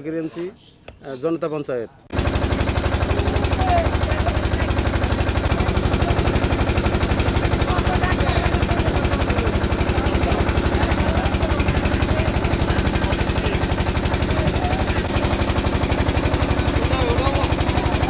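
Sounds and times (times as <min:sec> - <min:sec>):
small engine running: 0:02.1 - 0:18.0.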